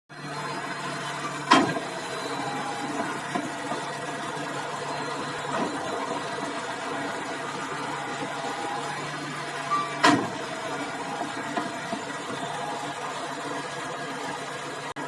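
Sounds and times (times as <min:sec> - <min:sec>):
bulldozer diesel engine running: 0:00.1 - 0:15.0.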